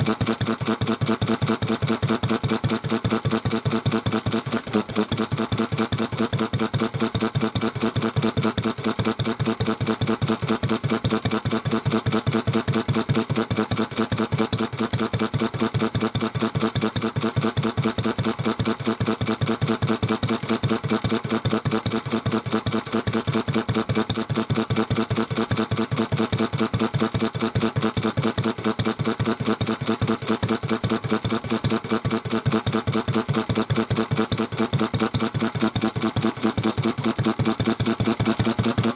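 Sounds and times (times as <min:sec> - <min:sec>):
stationary engine running: 0:00.0 - 0:38.9.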